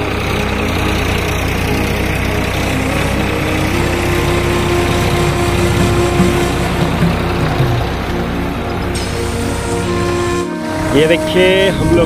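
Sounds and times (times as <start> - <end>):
blades churning soil: 0.0 - 11.6
tractor engine under load: 0.0 - 12.0.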